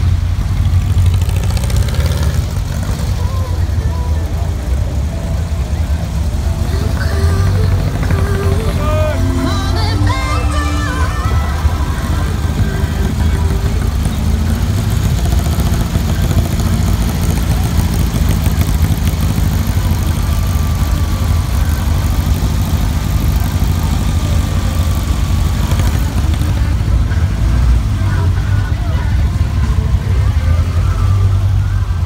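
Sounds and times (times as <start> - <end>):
car engines low rumble: 0.0 - 32.0.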